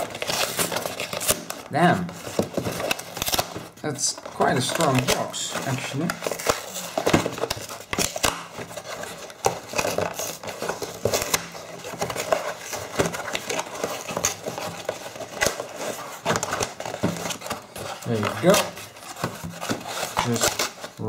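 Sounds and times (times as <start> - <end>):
cardboard scraping and rustling: 0.0 - 21.0.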